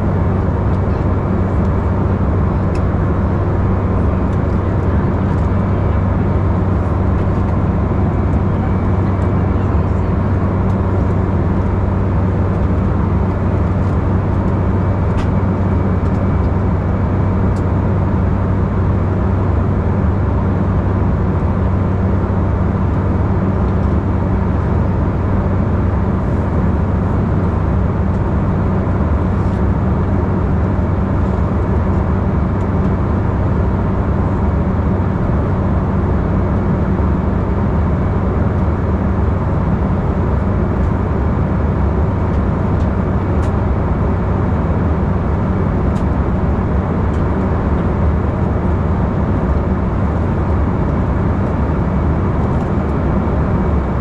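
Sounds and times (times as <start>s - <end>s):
airliner cabin engine drone: 0.0s - 54.0s
low constant hum: 0.0s - 54.0s.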